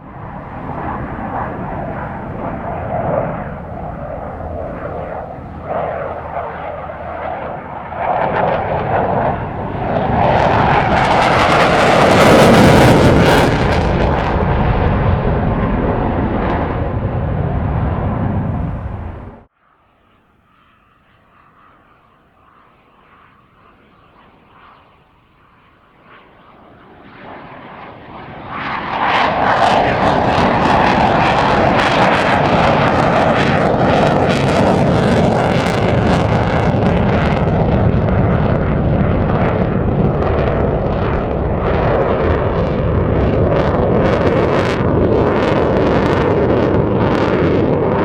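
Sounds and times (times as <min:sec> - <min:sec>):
jet engine on afterburner: 0:00.0 - 0:19.5, 0:25.6 - 0:48.0.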